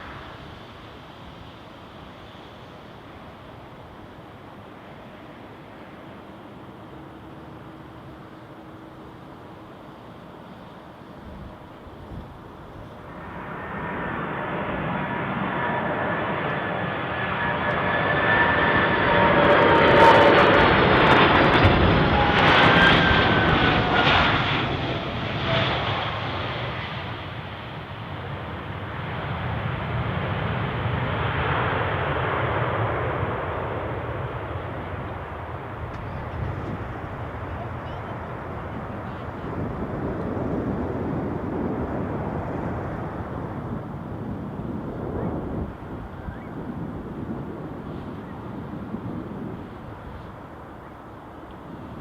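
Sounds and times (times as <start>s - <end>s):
jet engine noise: 0.0s - 52.0s.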